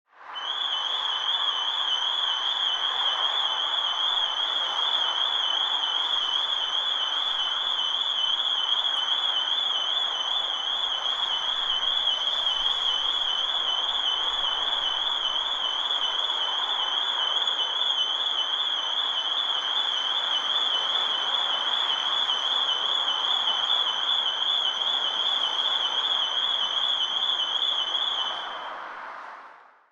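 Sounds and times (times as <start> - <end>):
city street noise: 0.1 - 29.9.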